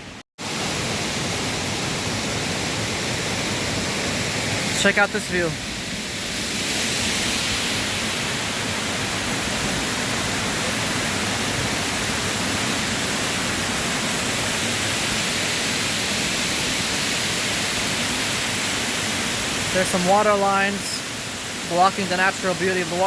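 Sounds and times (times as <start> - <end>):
waterfall rushing: 0.4 - 23.0.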